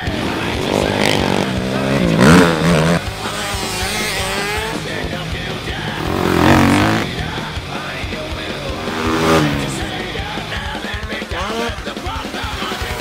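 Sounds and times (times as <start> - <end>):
quad engines revving: 0.0 - 13.0
rock music: 0.0 - 13.0.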